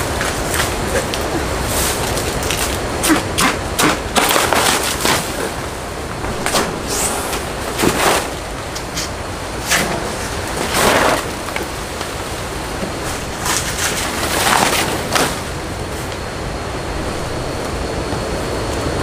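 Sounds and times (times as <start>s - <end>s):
banana leaves rustling: 0.0s - 19.0s
steady background hiss: 0.0s - 19.0s.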